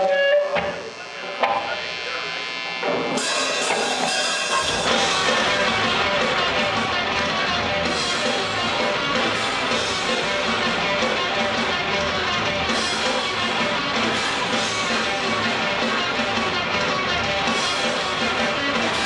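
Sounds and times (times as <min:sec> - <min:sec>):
heavy electric guitar: 0:00.0 - 0:19.0
loud rock band playing: 0:00.0 - 0:19.0.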